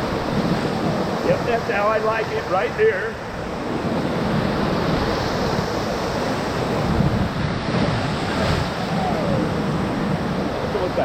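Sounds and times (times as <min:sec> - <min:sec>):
whitewater rushing: 0:00.0 - 0:11.0
wind buffeting microphone: 0:00.0 - 0:11.0.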